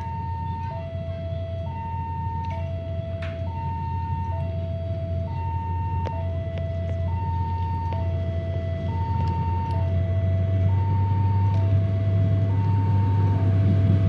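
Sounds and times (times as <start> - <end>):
level crossing alarm two-tone: 0.0 - 13.4
low rumble: 0.0 - 14.0.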